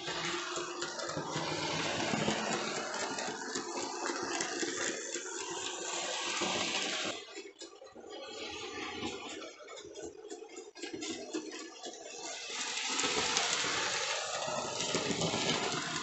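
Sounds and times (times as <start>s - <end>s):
model train motor whirring: 0.0s - 16.0s
wheels rattling on rails: 0.0s - 16.0s.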